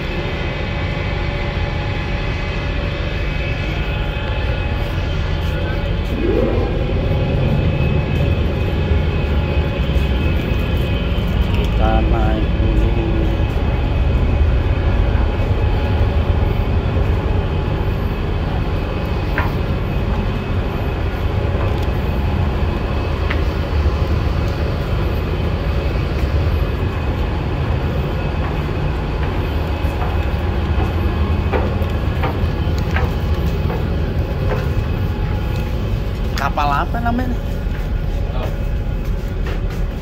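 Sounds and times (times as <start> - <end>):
ferry engine low rumble: 0.0 - 40.0.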